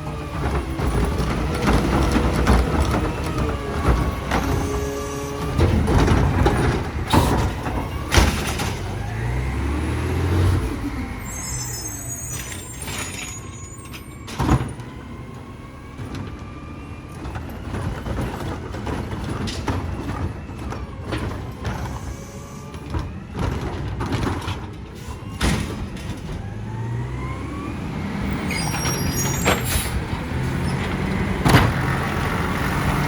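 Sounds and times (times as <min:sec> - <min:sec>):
garbage truck diesel engine revving: 0:00.0 - 0:12.8, 0:13.4 - 0:33.0.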